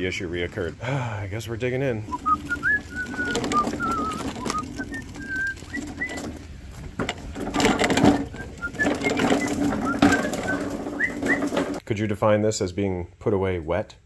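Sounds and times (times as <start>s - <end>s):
push mower rolling on wet pavement: 0.0s - 11.8s.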